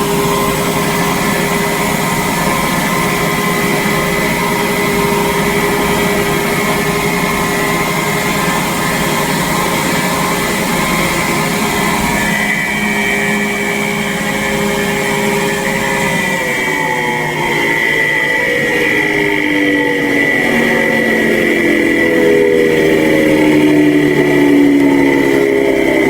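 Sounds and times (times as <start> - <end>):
compressor whining: 0.0 - 26.0
electric fan motor whirring: 0.0 - 26.0.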